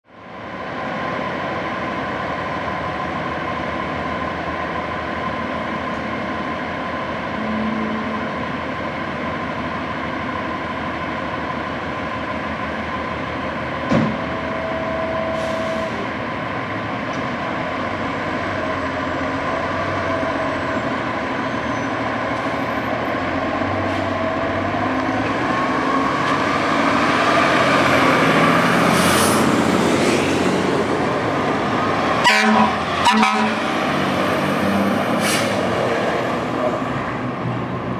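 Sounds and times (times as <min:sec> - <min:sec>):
diesel fire engines idling: 0:00.2 - 0:37.9.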